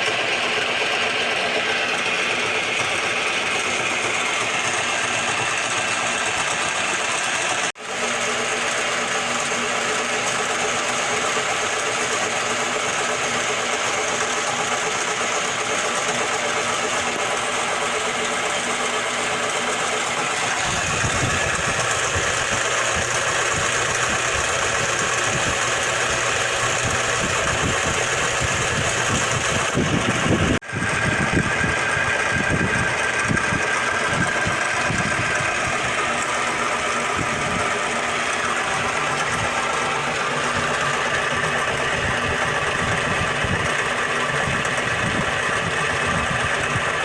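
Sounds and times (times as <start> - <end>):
machine running with rattling: 0.0 - 47.0.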